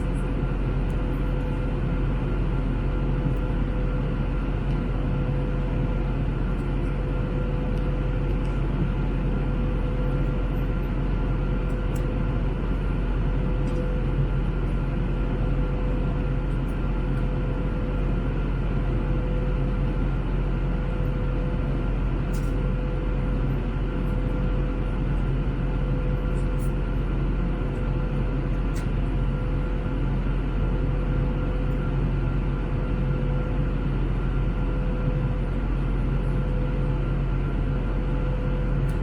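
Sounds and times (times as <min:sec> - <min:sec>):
airplane cabin engine and airflow noise: 0:00.0 - 0:39.0.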